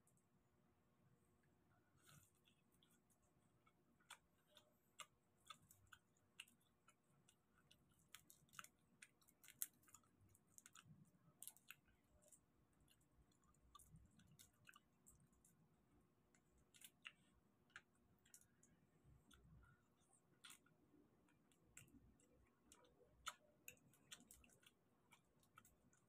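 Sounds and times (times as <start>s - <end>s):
wet chewing: 1.9s - 26.0s.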